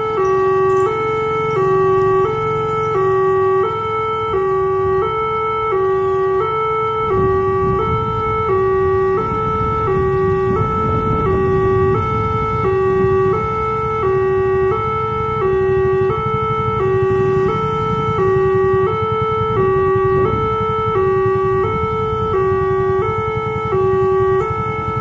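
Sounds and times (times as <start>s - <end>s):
level crossing two-tone alarm: 0.0s - 25.0s
low vehicle rumble: 0.0s - 25.0s.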